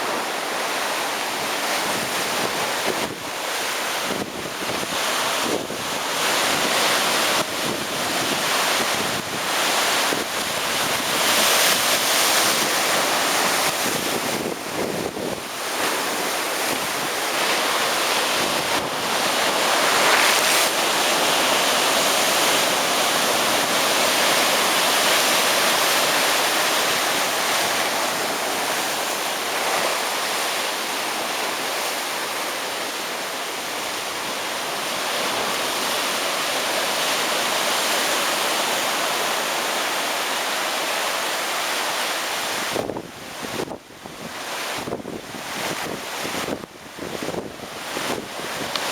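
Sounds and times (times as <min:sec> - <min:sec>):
ocean surf breaking: 0:00.0 - 0:48.9.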